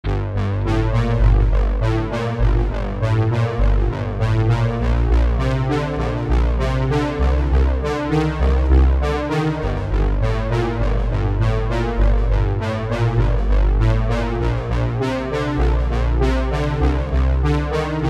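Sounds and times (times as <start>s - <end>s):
bass line: 0.0s - 18.0s.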